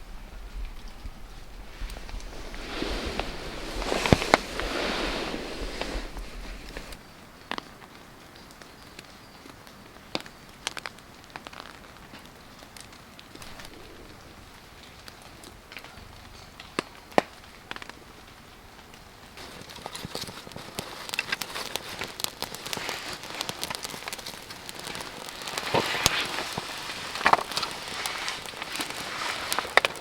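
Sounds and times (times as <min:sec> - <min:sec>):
campfire crackling and popping: 0:00.0 - 0:30.0
rain pattering on a tarp: 0:00.0 - 0:30.0.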